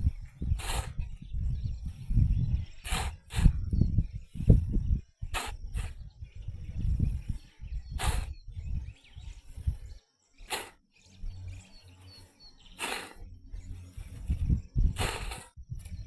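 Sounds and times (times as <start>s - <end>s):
rushing wind sweeps: 0.0s - 9.9s, 12.8s - 16.0s
faint bird chirps: 0.0s - 16.0s
gusty wind buffeting microphone: 0.0s - 16.0s.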